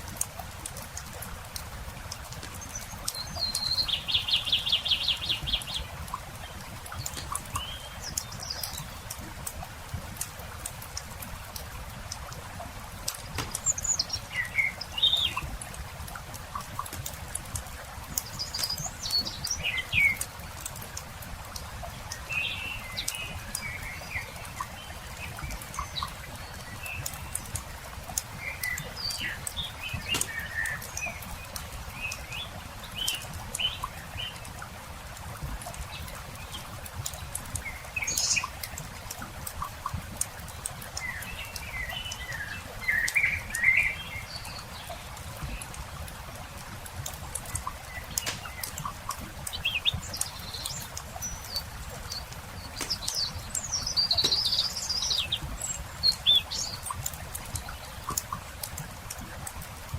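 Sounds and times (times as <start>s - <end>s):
campfire crackling and popping: 0.0s - 23.7s, 24.4s - 42.5s, 45.1s - 59.9s
small birds chirping: 0.0s - 59.9s.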